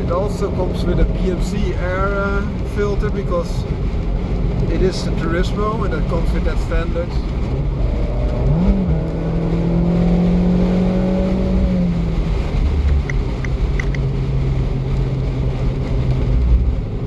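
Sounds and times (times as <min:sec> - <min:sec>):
car engine cruising: 0:00.0 - 0:17.0
wind and road noise: 0:00.0 - 0:17.0.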